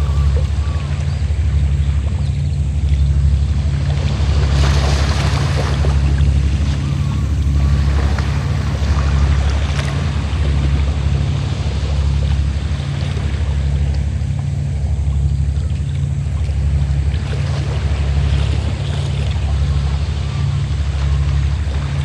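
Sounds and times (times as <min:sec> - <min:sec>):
boat engine humming: 0:00.0 - 0:22.0
sea waves washing: 0:00.0 - 0:22.0.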